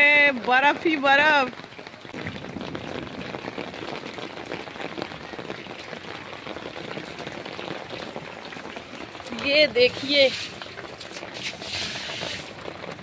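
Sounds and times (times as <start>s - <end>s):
hail and rain clattering: 0.0s - 13.0s.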